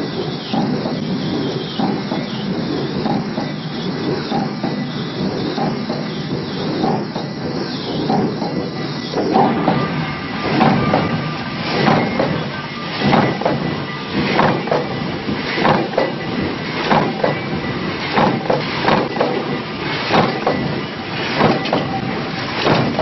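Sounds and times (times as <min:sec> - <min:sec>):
steady machine din: 0:00.0 - 0:23.0.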